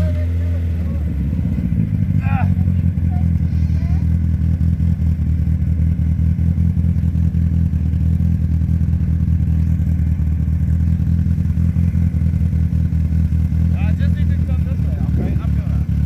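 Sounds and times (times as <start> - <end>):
buggy engine idling: 0.0 - 16.0.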